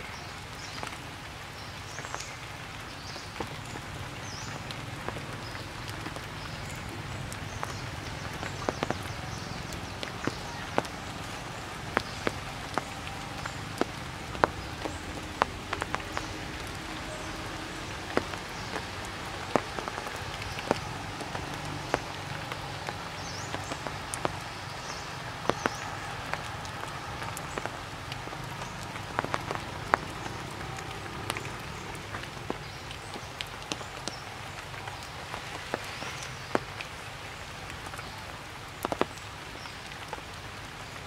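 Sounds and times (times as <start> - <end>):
rain falling in trees: 0.0 - 41.0
drops tapping on leaves: 3.0 - 40.3.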